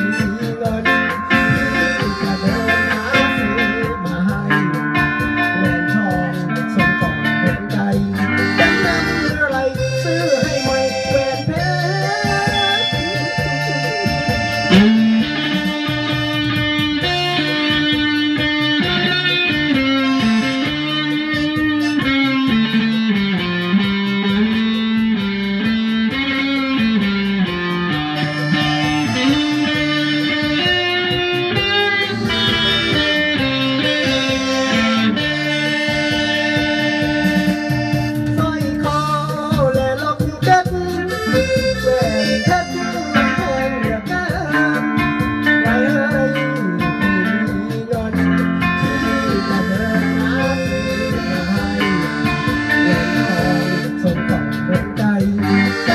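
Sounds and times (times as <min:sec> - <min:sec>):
electric guitar: 0:00.0 - 0:55.9
electronic keyboard melody: 0:00.0 - 0:55.9.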